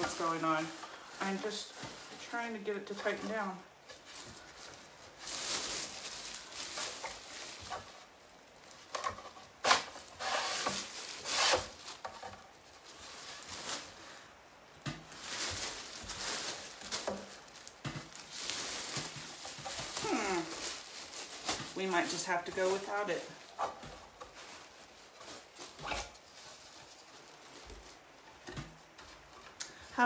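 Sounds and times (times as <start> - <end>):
plastic sheeting crinkling: 0.0 - 30.0.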